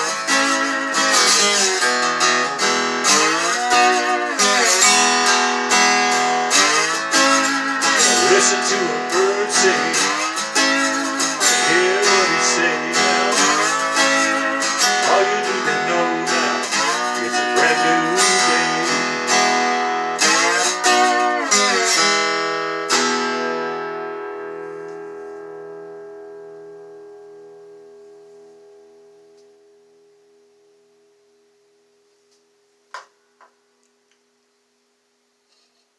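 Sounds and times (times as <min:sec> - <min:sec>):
acoustic guitar strumming: 0:00.0 - 0:31.8.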